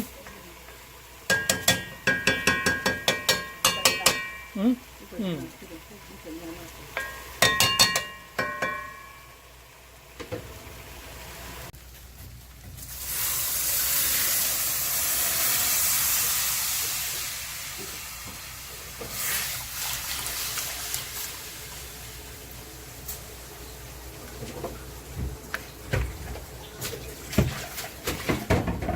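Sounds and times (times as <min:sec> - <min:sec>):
cooking pot hissing: 0:00.0 - 0:26.8.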